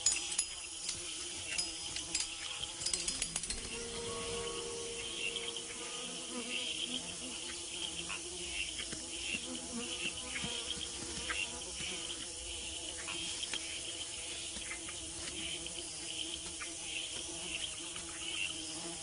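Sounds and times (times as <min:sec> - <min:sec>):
insects buzzing and chirring: 0:00.0 - 0:19.0.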